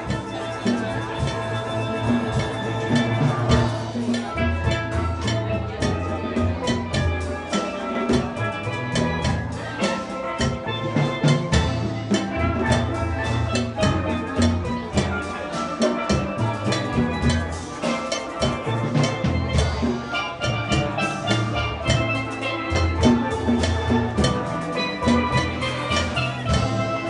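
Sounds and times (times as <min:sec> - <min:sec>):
percussion keeping the beat: 0:00.0 - 0:27.0
steelpans playing melody: 0:00.0 - 0:27.0.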